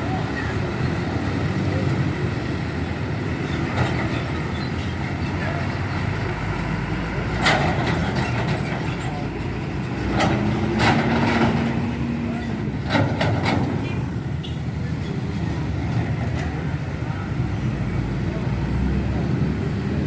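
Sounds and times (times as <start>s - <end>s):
heavy road traffic rumble: 0.0s - 20.0s.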